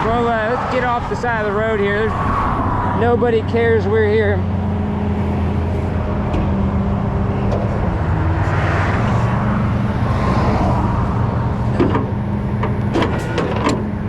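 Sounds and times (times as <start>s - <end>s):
traffic passing: 0.0s - 14.0s.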